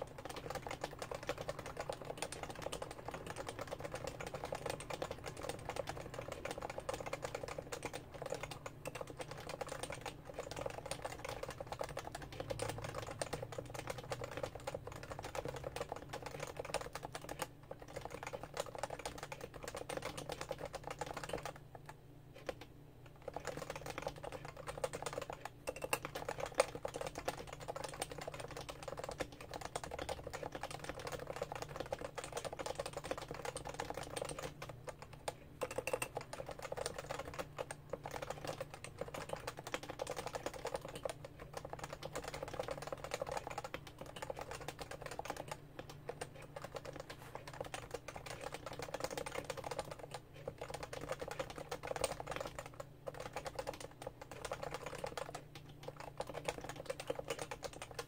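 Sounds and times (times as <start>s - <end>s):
soft keyboard typing: 0.0s - 58.0s.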